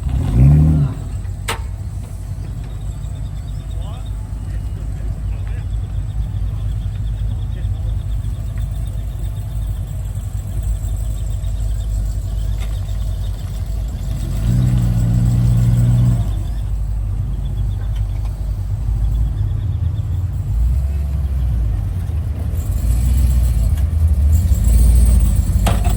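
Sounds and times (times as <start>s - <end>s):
car engines rumbling: 0.0s - 25.9s
engine note rising: 0.0s - 25.9s.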